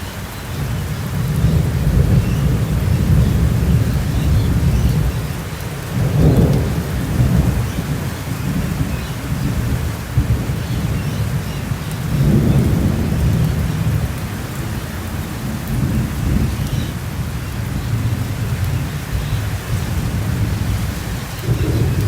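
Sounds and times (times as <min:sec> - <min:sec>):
steady rain: 0:00.0 - 0:22.0
rolling thunder: 0:01.1 - 0:22.0.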